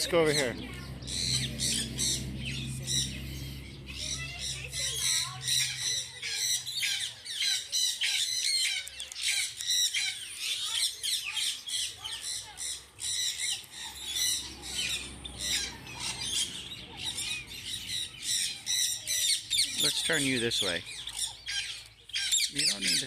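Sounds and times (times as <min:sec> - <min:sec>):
parrots squawking: 0:00.0 - 0:23.0.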